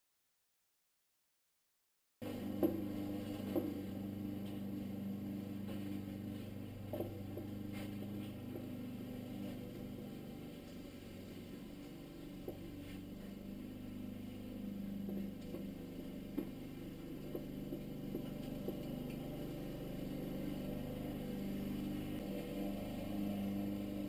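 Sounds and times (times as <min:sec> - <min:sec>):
steady low hum: 0:02.2 - 0:24.0.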